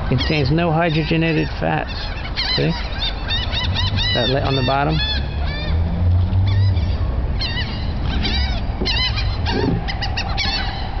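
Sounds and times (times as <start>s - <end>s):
seagulls squawking: 0.0s - 11.0s.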